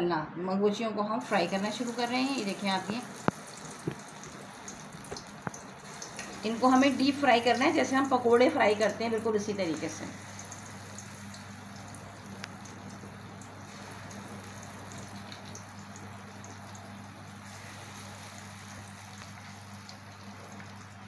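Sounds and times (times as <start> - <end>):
low steady hum: 0.0 - 21.0
fritters sizzling in hot oil: 1.2 - 21.0
oil popping and crackling: 1.2 - 21.0.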